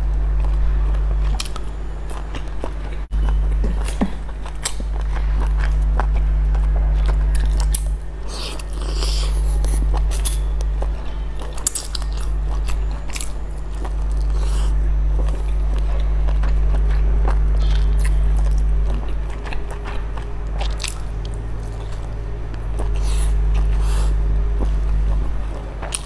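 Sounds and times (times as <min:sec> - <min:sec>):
chewing dumpling: 0:00.0 - 0:26.0
steady low hum: 0:00.0 - 0:26.0.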